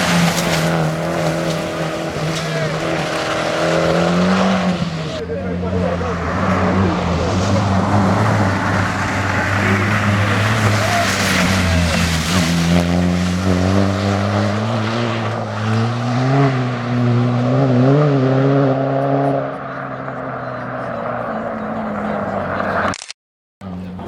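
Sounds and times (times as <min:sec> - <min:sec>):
rally car engine running hard: 0:00.0 - 0:22.9.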